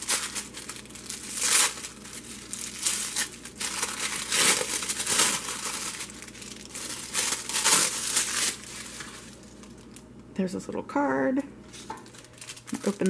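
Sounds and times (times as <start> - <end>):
tissue paper crinkling: 0.0 - 10.0, 11.7 - 13.0.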